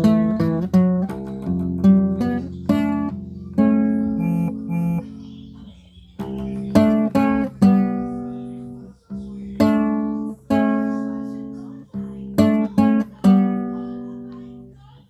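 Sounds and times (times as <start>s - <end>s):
acoustic guitar plucked melody: 0.0s - 15.0s.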